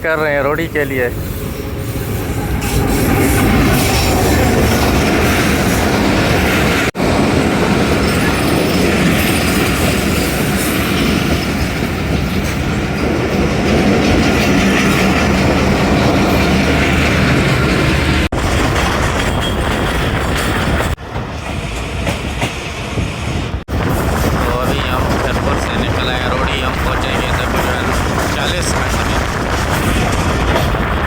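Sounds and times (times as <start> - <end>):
train carriages rattling: 0.0 - 31.0.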